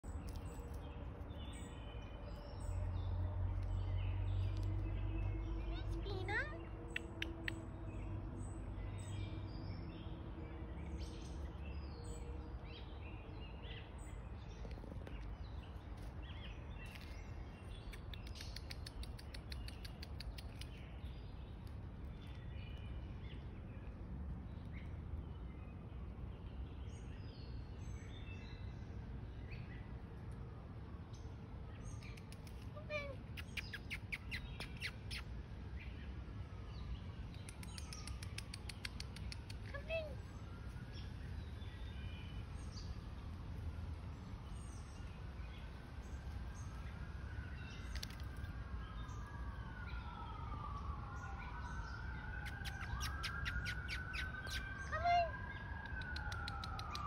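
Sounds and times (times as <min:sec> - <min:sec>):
small birds chirping: 0:00.0 - 0:30.4, 0:31.0 - 0:57.0
steady low rumble: 0:00.0 - 0:54.6.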